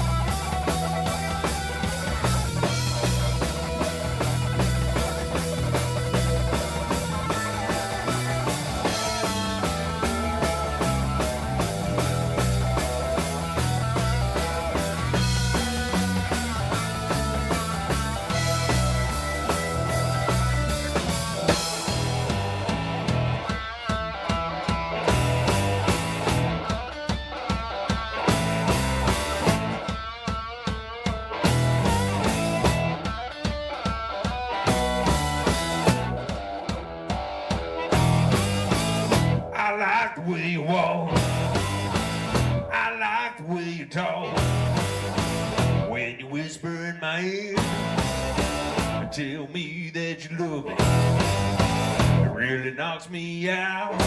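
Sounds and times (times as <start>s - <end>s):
drum kit: 0.0s - 39.6s, 40.8s - 42.8s, 44.2s - 46.0s, 47.5s - 49.3s, 50.5s - 52.6s
electric guitar: 0.0s - 49.6s, 50.2s - 54.0s
bass guitar: 0.0s - 54.0s.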